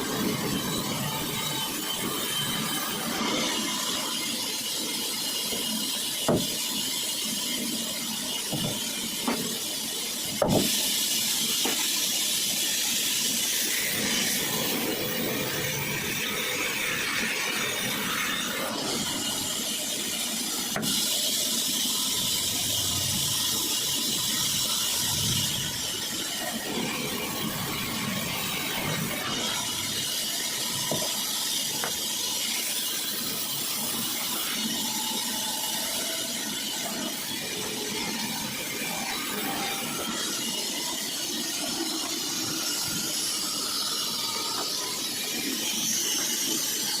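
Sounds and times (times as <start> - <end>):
sawmill saw hissing: 0.0 - 47.0.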